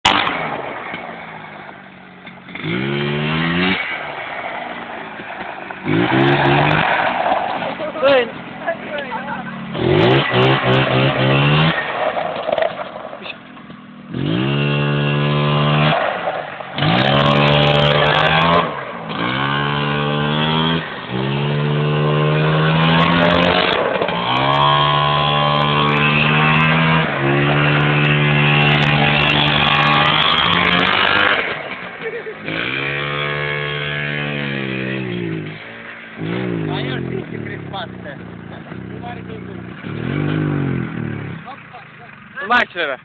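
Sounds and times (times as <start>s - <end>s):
quad engine revving: 0.0s - 1.4s, 2.2s - 43.0s.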